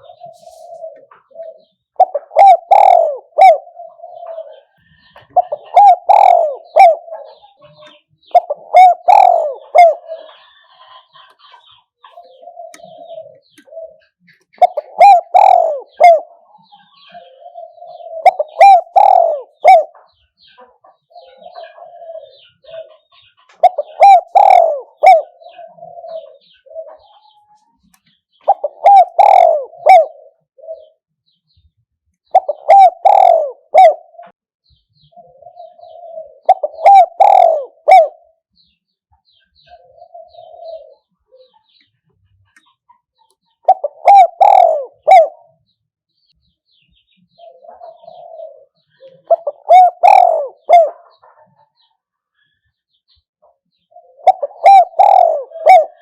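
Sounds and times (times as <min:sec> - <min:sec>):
dove cooing: 0:00.0 - 0:27.6, 0:28.3 - 0:31.0, 0:32.2 - 0:34.4, 0:35.0 - 0:38.4, 0:39.3 - 0:42.7, 0:43.5 - 0:45.6, 0:47.3 - 0:51.9, 0:53.9 - 0:56.0.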